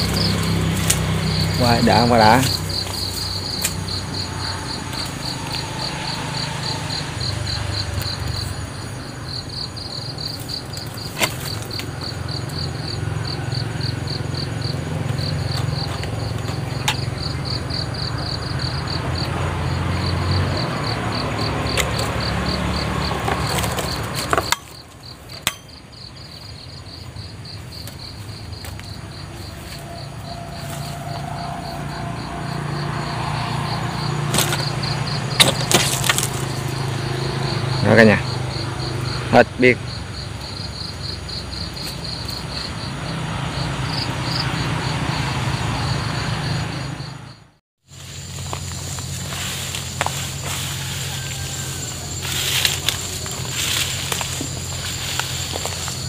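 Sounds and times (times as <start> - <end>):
insect chirping in rapid pulses: 0.0 - 56.0.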